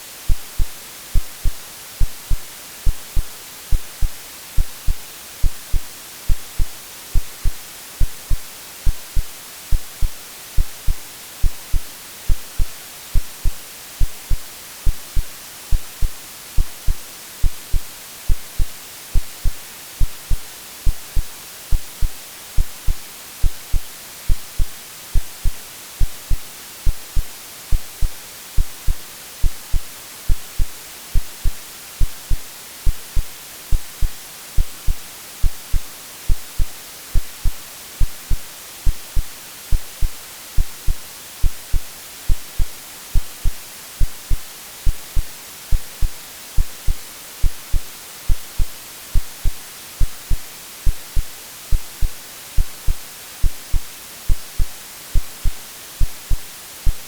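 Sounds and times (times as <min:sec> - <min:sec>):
white noise hiss: 0:00.0 - 0:57.0
heartbeat thumps: 0:00.3 - 0:57.0.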